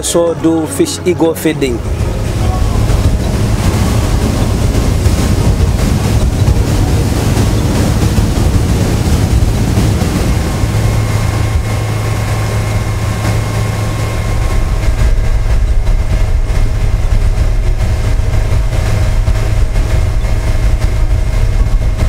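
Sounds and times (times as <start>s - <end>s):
outboard motor droning: 0.0s - 22.0s
water rushing from wake: 0.0s - 22.0s.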